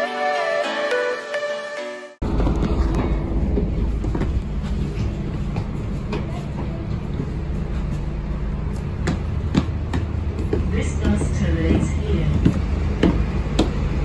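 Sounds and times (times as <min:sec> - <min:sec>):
bus engine and road drone: 0:02.2 - 0:14.0.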